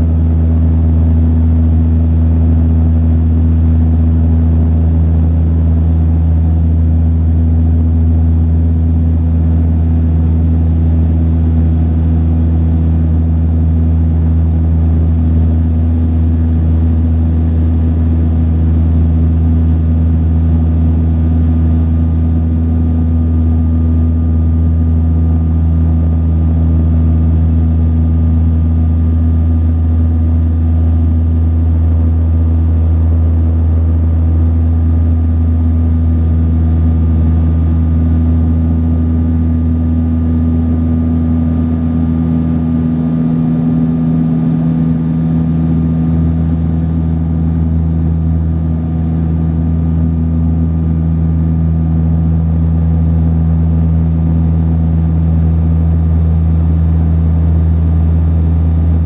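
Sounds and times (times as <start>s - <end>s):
propeller plane cabin drone: 0.0s - 59.0s.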